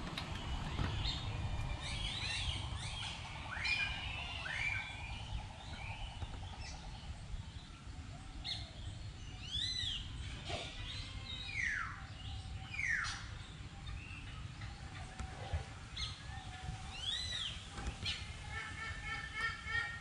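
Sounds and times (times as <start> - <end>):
birds chirping whistled notes: 0.0 - 20.0
steady low rumble: 0.0 - 20.0.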